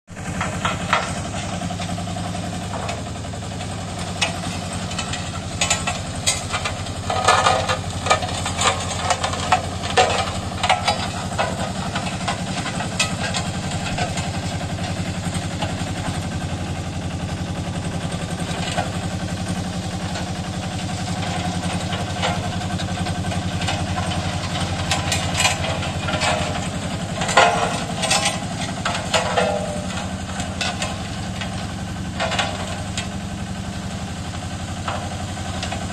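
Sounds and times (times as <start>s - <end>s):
roller diesel engine running: 0.0s - 35.9s.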